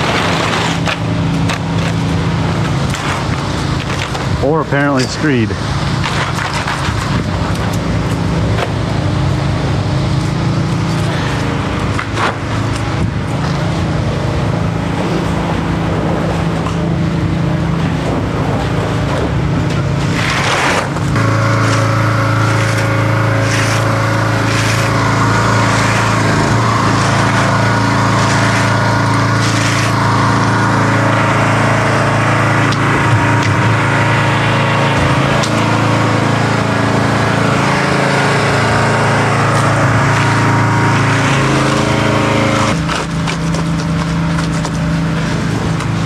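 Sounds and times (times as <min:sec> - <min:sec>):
engine equipment running: 0:00.0 - 0:46.0.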